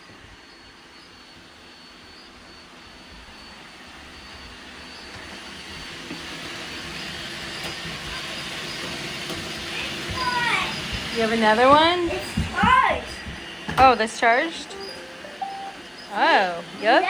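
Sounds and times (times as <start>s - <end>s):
robot vacuum cleaner whirring: 0.0s - 17.0s.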